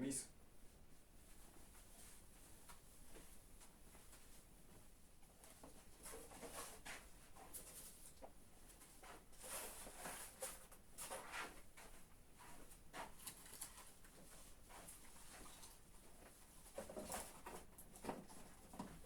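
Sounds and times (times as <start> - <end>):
faint rustling and handling noises: 0.6 - 19.0.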